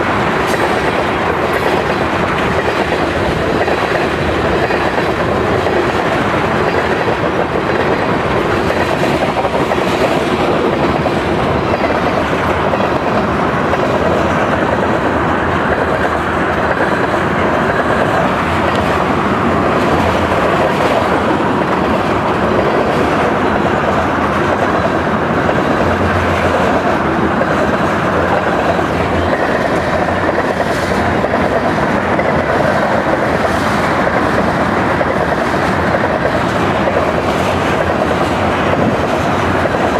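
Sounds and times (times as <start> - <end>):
clickety-clack over rail joints: 0.0 - 39.9
train wheels rumbling: 0.0 - 39.9.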